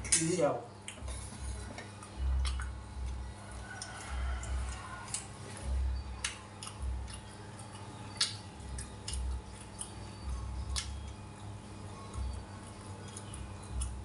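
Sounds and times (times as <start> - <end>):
person chewing food: 0.8 - 14.0.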